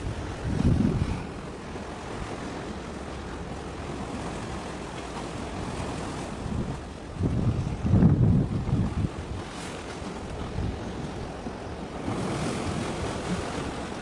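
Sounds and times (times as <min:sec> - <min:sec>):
sea: 0:00.0 - 0:14.0
wind buffeting microphone: 0:00.0 - 0:14.0.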